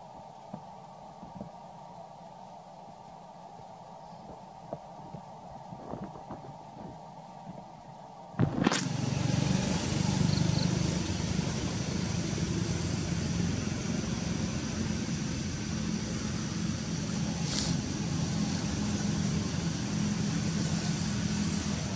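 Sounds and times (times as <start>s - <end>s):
low rumble with hiss: 0.0s - 21.9s.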